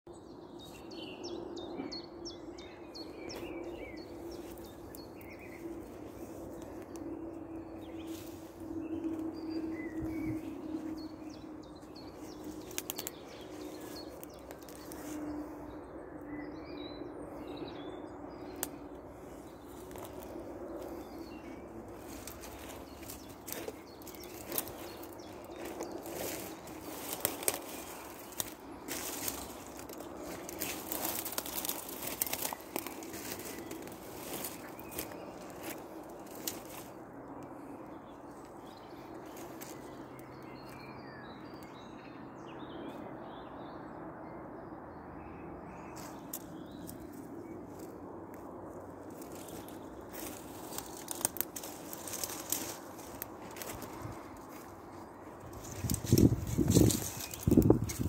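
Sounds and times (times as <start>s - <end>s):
small birds chirping: 0.1s - 43.5s, 45.8s - 58.0s
footsteps through dry brambles: 0.3s - 15.9s, 16.5s - 42.0s, 45.9s - 58.0s.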